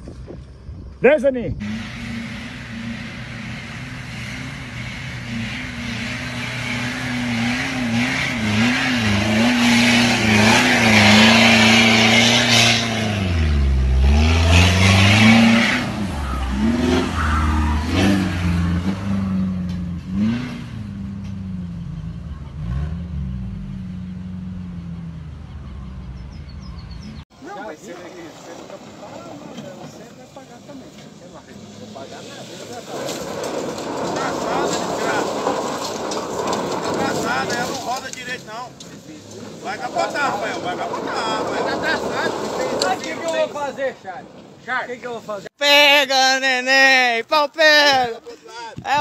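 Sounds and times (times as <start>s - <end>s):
tyres churning sand: 1.0s - 20.7s, 27.3s - 49.0s
vehicle engines revving: 1.6s - 45.6s.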